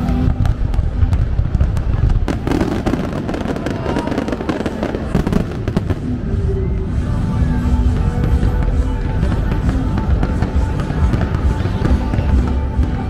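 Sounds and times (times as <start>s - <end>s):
fireworks cracking: 0.0s - 6.7s, 7.4s - 13.0s
fireworks crackles: 0.0s - 13.0s.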